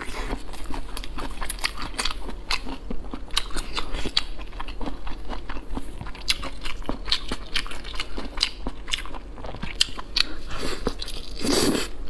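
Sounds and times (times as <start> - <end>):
wet chewing and crunching: 0.0 - 11.9.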